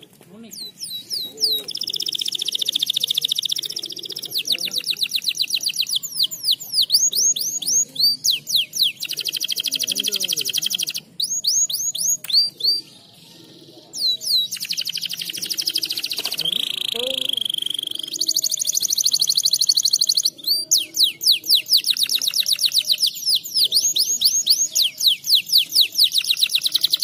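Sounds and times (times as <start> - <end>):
canary singing: 0.4 - 27.0.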